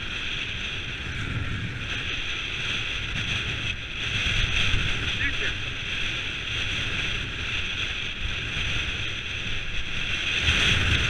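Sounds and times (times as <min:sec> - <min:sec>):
bike tyres rumbling on dirt: 0:00.0 - 0:11.0
wind buffeting microphone: 0:00.0 - 0:11.0.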